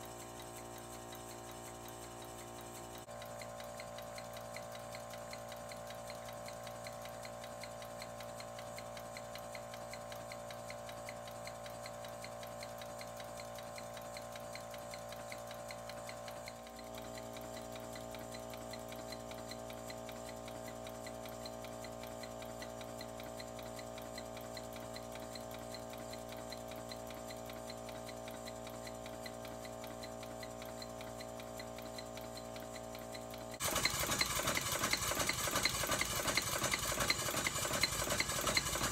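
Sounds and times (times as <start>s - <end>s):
fast ticking of model locomotive: 0.0s - 38.9s.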